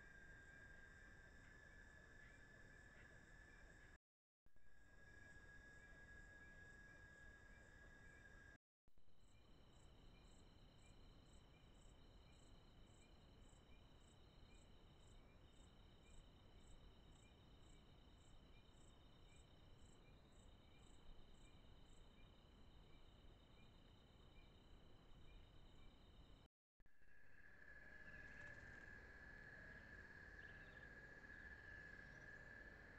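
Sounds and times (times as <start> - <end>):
insect chirping: 0.0 - 3.9, 4.7 - 8.5, 9.3 - 32.9.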